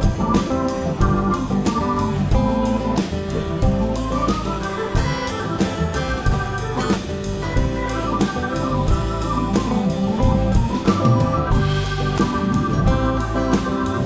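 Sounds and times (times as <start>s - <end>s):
drum kit: 0.0s - 14.0s
electric guitar: 0.0s - 14.0s.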